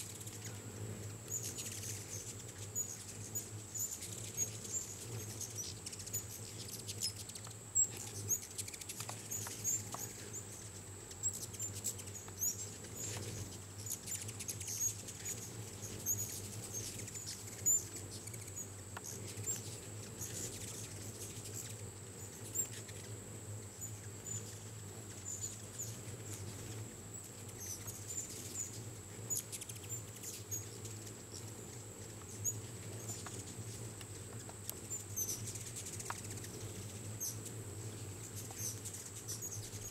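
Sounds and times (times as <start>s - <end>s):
hummingbird wings buzzing: 0.0s - 39.9s
hummingbirds chipping and twittering: 0.0s - 39.9s.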